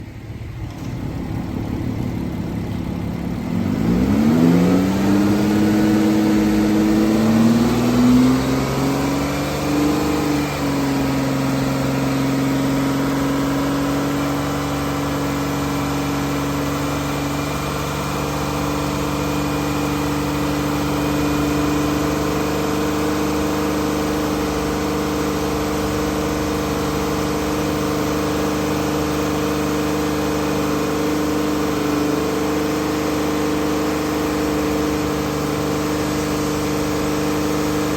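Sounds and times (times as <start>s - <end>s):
car engine revving and idling: 0.0s - 37.9s.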